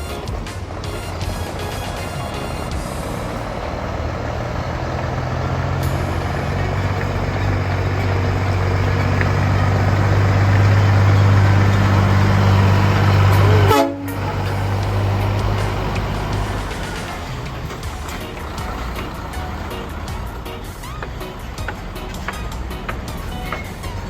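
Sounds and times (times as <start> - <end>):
truck diesel engine humming: 0.0 - 24.0.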